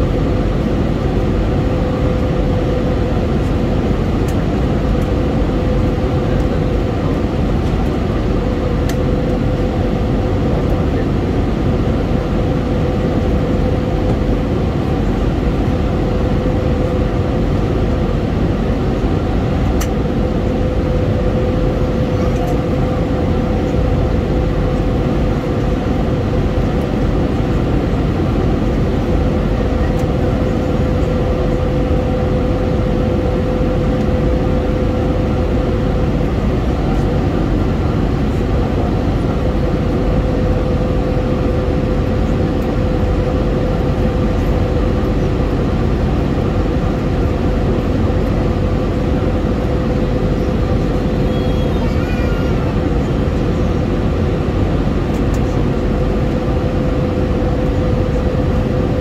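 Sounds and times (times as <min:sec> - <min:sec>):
airliner cabin noise: 0:00.0 - 0:59.0.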